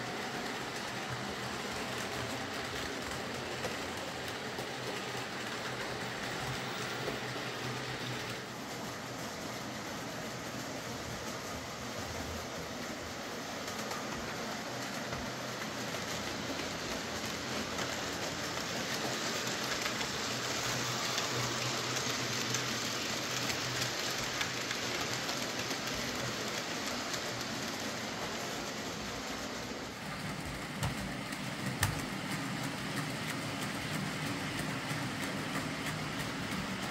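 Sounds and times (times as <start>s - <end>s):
model train wheels rattling: 0.0s - 36.9s.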